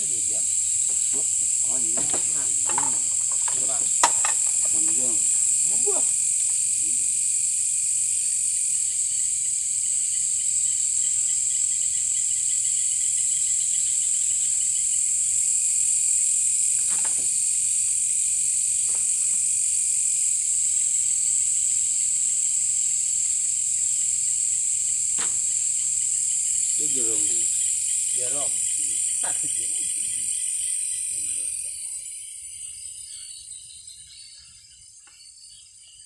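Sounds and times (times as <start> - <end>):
high-pitched insect shrill: 0.0 - 35.8
fast-pulsing insect trill: 0.0 - 36.0.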